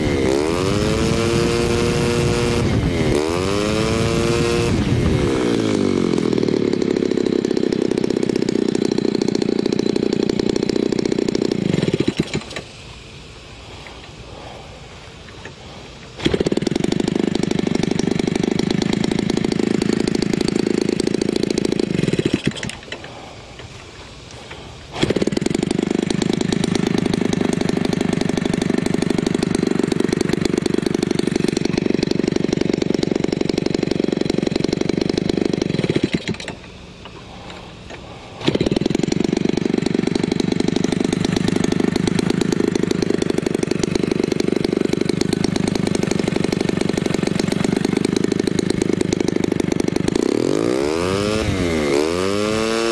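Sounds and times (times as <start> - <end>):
small two-stroke engine running: 0.0 - 52.9.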